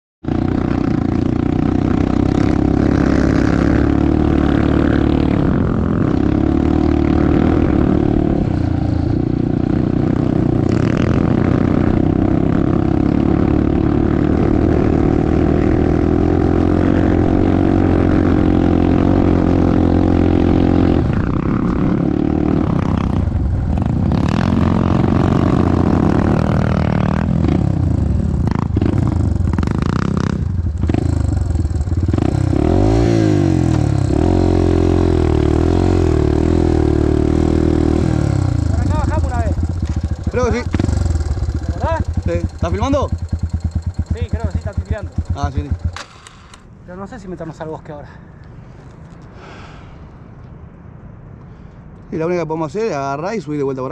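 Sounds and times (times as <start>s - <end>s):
dirt bike engine revving: 0.3s - 46.7s.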